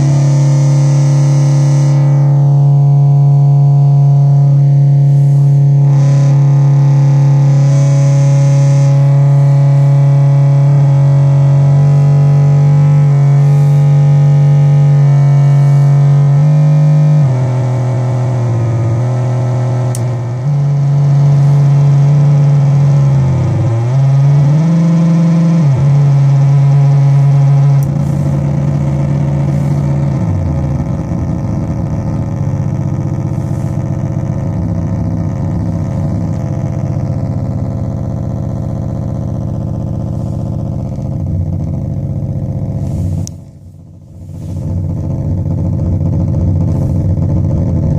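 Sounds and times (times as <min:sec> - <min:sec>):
crackling synth buzz: 0:00.0 - 0:47.9
synth drone: 0:00.0 - 0:47.9.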